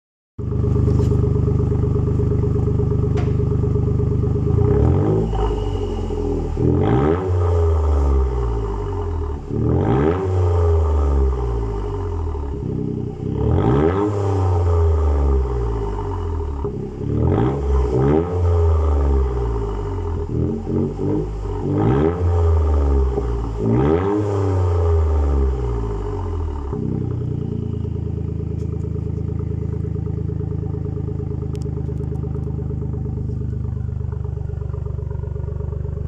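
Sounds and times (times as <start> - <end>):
car engine idling: 0.4 - 36.0
engine revving: 0.4 - 36.0.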